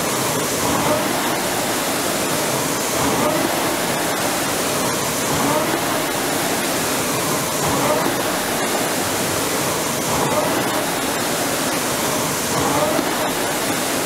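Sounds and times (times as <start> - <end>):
rowing machine flywheel whooshing: 0.0 - 14.0.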